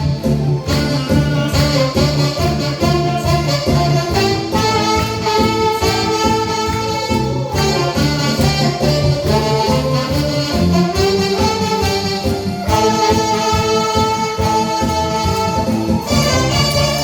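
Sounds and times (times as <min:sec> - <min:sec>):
saxophones playing trot melody: 0:00.0 - 0:17.0
steady bass beat: 0:00.0 - 0:17.0.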